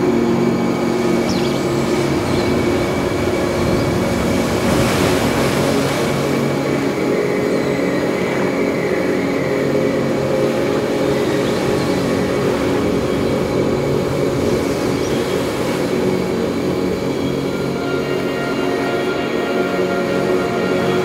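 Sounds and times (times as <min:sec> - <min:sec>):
ambient drone music: 0:00.0 - 0:21.0.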